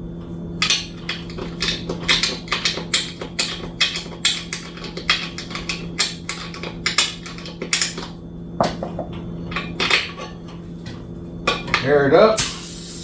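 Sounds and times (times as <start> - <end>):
steady low hum: 0.0 - 13.0
clinks and clatters: 0.6 - 11.9.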